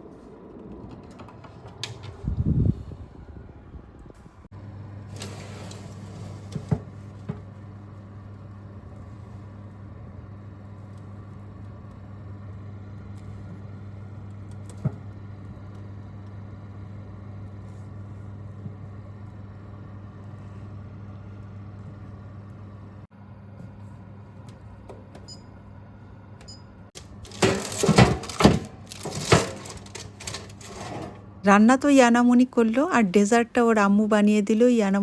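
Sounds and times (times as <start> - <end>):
kitchen appliance humming: 4.5 - 35.0.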